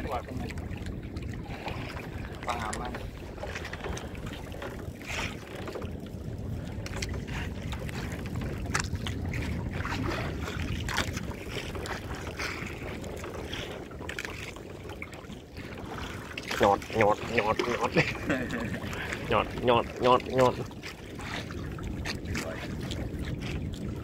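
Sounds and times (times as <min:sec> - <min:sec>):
low rumble of wind and water: 0:00.0 - 0:24.0
wind buffeting microphone: 0:00.0 - 0:24.0.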